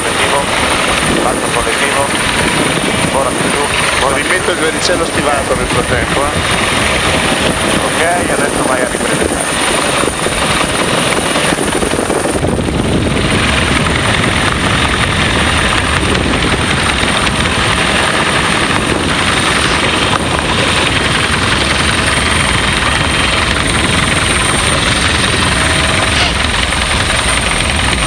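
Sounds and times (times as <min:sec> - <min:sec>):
helicopter rotor and turbine noise: 0:00.0 - 0:28.0.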